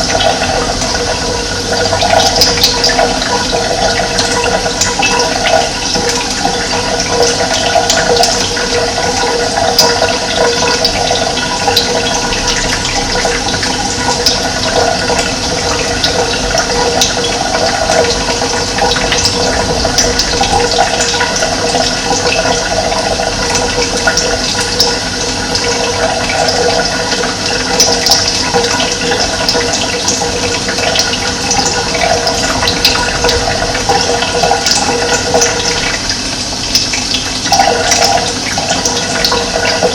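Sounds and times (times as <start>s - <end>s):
rushing water with splashes: 0.0s - 39.9s.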